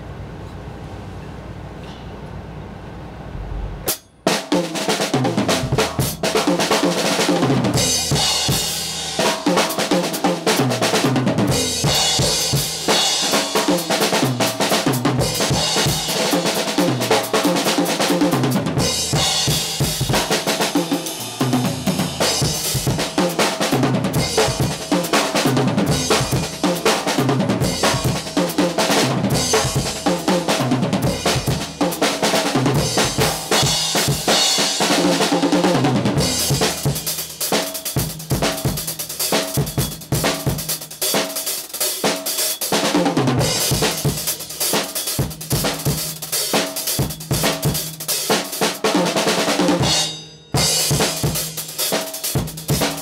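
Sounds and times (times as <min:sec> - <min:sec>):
drum kit playing: 0:03.4 - 0:53.0.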